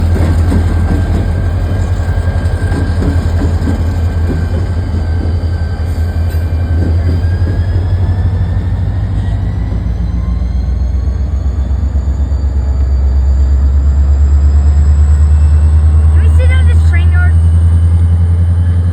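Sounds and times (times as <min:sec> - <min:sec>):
diesel locomotive rumbling: 0:00.0 - 0:18.9.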